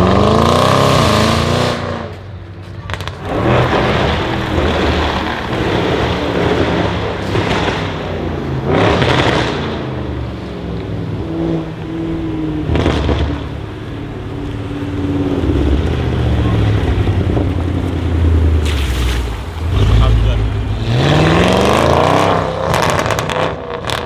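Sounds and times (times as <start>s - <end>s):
loud car engine surging: 0.0s - 24.0s.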